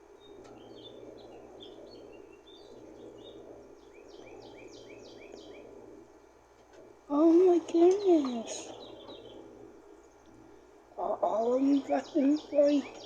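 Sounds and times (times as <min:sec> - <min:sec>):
bird chirping: 0:00.0 - 0:05.9, 0:07.1 - 0:13.0
low background noise: 0:00.0 - 0:13.0.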